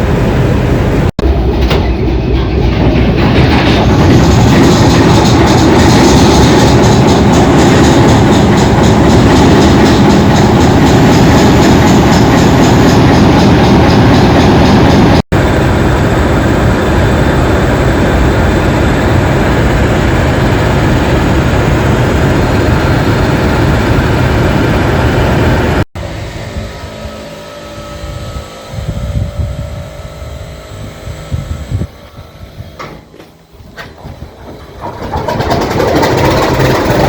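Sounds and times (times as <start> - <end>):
diesel locomotive engine running: 0.0 - 37.0.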